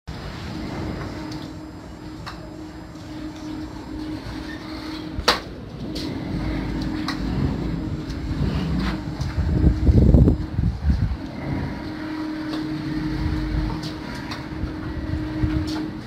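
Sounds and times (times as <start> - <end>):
low rumble: 0.1 - 16.0
machinery hum: 0.1 - 16.0.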